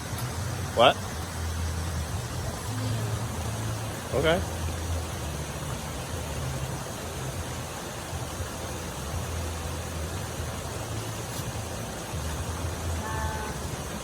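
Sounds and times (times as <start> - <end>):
motor vehicle running noise: 0.0 - 14.0.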